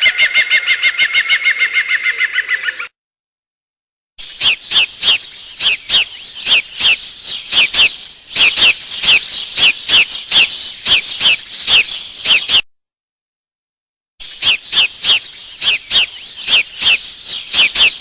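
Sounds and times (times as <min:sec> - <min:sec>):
bird chirping: 0:00.0 - 0:02.9, 0:04.2 - 0:12.7, 0:14.2 - 0:18.0.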